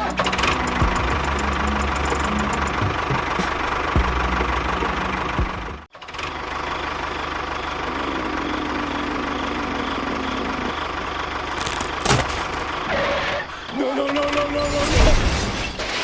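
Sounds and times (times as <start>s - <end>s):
small engine running: 0.0s - 13.5s.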